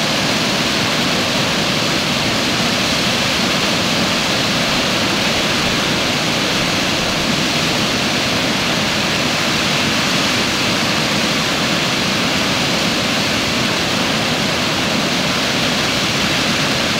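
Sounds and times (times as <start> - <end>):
water rushing over dam spillway: 0.0 - 16.9.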